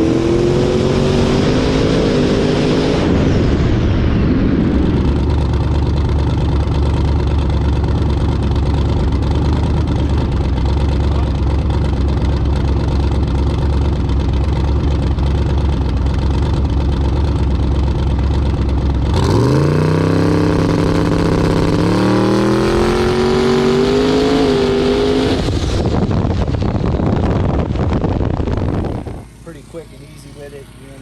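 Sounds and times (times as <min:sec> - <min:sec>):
drag car engine accelerating: 0:00.0 - 0:31.0.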